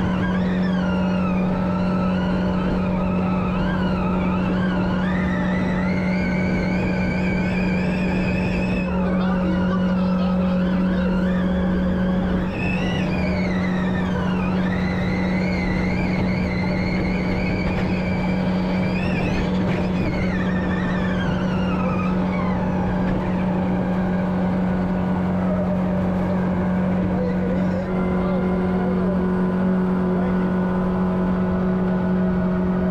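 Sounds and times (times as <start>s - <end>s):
electric drive whine: 0.0s - 32.9s
low drone: 0.0s - 32.9s.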